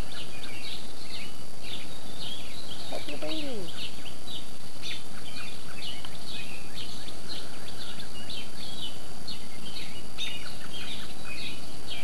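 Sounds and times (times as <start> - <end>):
small songbirds chirping: 0.0 - 12.0
steady background hiss: 0.0 - 12.0.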